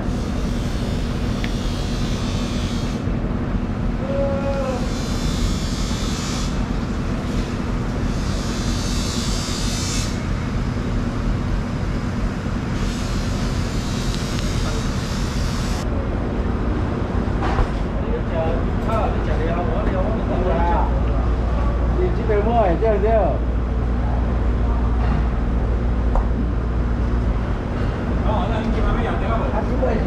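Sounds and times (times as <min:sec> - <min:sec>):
dense background noise: 0:00.0 - 0:30.0
low machine hum: 0:00.0 - 0:30.0.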